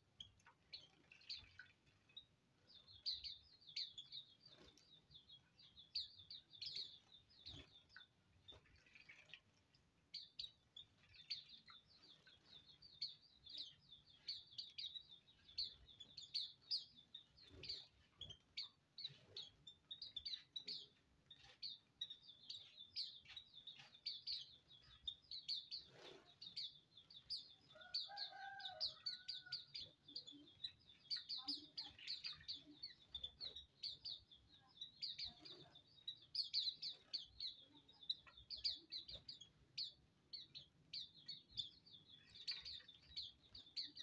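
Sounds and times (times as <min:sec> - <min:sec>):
birds twittering: 0:00.0 - 0:44.0.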